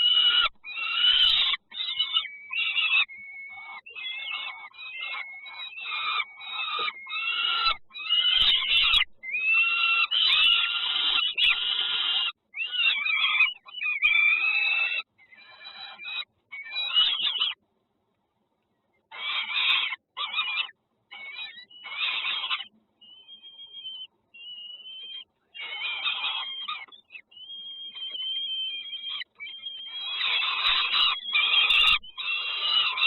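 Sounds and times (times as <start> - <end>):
nestling birds begging calls: 0.0 - 17.6, 19.1 - 33.0.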